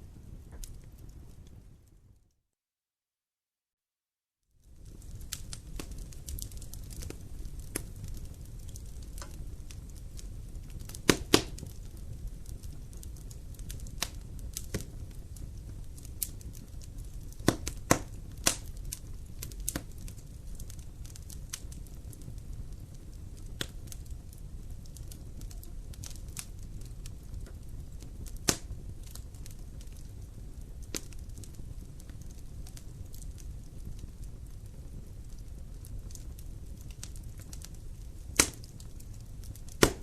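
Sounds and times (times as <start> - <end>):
fire crackling and popping: 0.0 - 2.2, 4.6 - 40.0
low rumble of flame: 0.0 - 2.3, 4.5 - 40.0.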